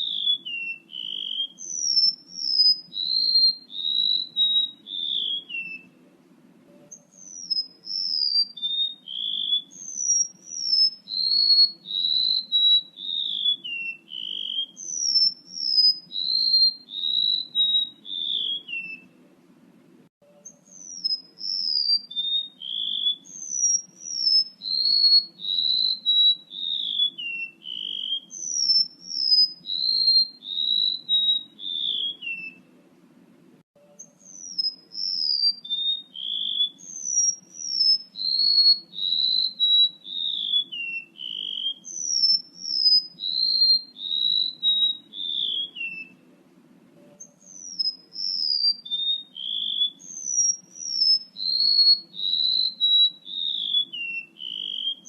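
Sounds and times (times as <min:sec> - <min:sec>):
bird whistles stepping down in pitch: 0:00.0 - 0:05.9, 0:06.8 - 0:19.1, 0:20.4 - 0:32.6, 0:34.0 - 0:46.2, 0:47.1 - 0:55.0.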